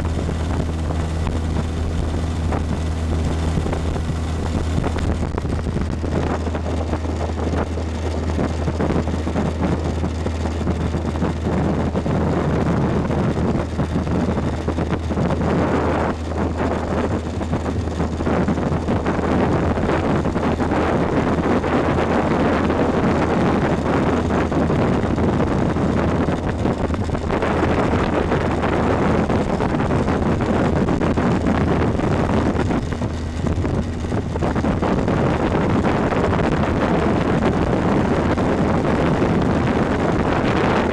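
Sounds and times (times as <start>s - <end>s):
motorboat engine hum: 0.0s - 40.9s
rush of wind and water: 0.0s - 40.9s
wind buffeting microphone: 0.0s - 40.9s.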